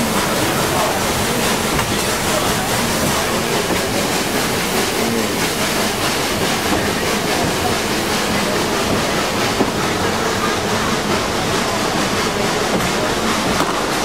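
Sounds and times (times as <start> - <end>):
train wheels running on track: 0.0 - 14.0.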